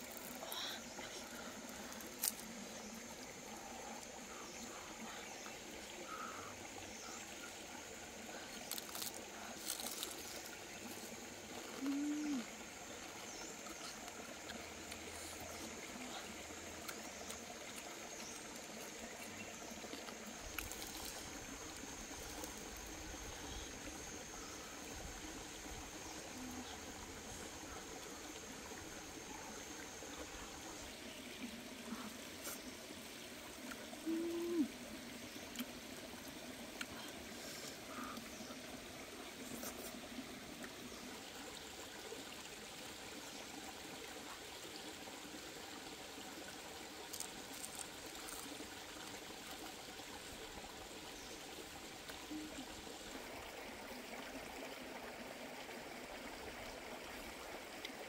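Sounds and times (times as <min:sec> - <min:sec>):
small stream trickling: 0:00.0 - 0:58.0.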